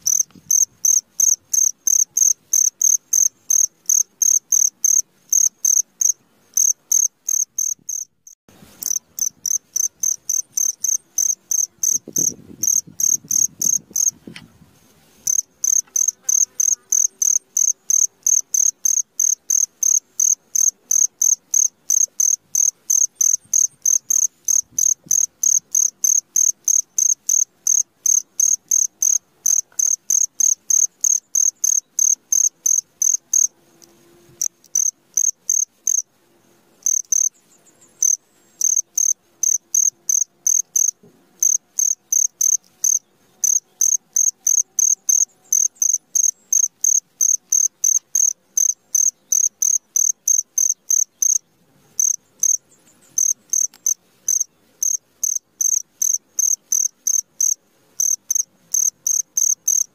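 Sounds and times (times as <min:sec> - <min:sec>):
cricket chirping: 0:00.0 - 0:14.2, 0:15.2 - 0:33.5, 0:34.4 - 0:36.1, 0:36.8 - 0:59.9.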